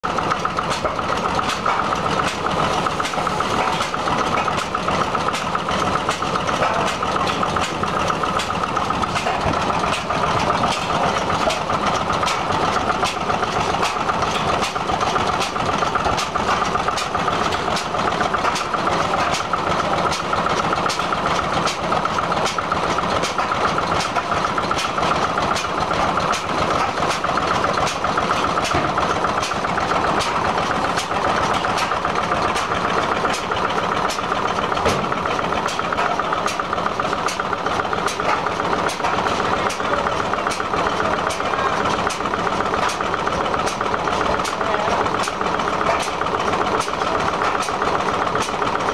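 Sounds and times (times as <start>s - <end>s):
stationary engines clattering: 0.0s - 48.9s.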